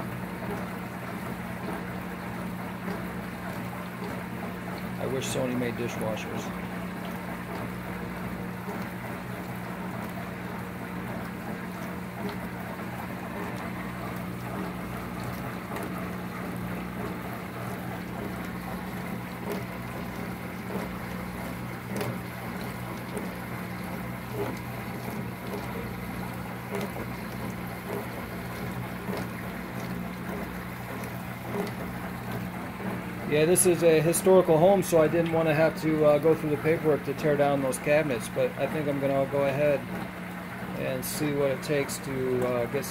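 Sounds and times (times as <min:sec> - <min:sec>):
dishwasher pump hum: 0:00.0 - 0:42.9
water spraying and splashing: 0:02.6 - 0:42.9.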